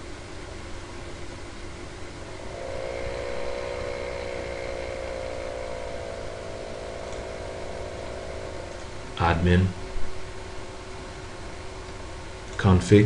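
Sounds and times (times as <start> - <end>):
higher humming tone: 0.0 - 12.6
mechanical hum with low drone: 0.0 - 13.0.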